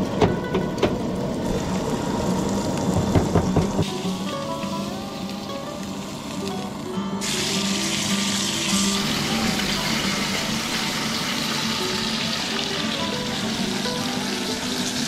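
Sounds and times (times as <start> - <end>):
steak sizzling in oil: 1.2 - 15.0.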